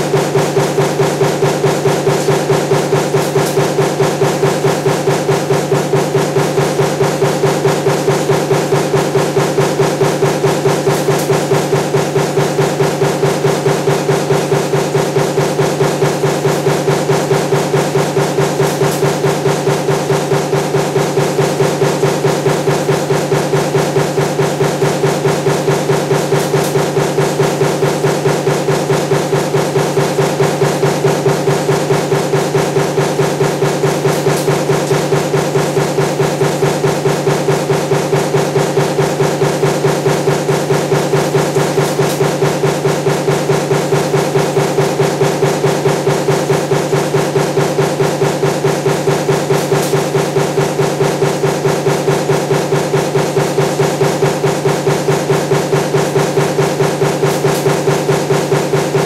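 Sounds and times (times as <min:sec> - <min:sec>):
machine hum: 0:00.0 - 0:59.0
punch press strokes: 0:00.0 - 0:59.0.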